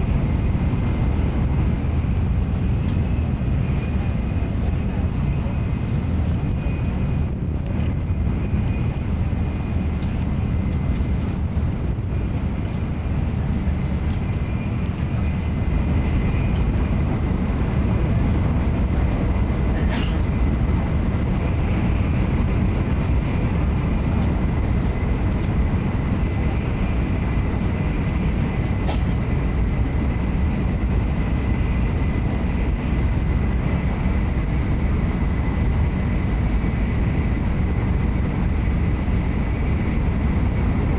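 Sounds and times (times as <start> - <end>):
train interior rumble: 0.0 - 40.9.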